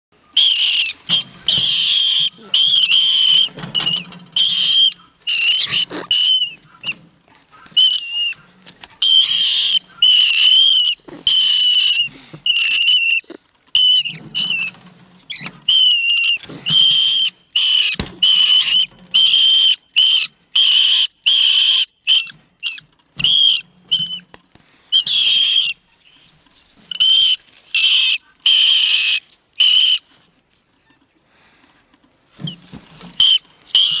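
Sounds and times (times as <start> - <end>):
rat squealing: 0.4 - 24.3, 24.9 - 26.3, 26.9 - 30.1, 33.2 - 34.0.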